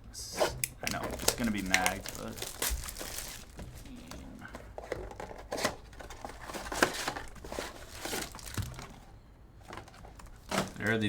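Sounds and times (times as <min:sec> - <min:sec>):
cards in plastic sleeves rustling: 0:00.3 - 0:11.0.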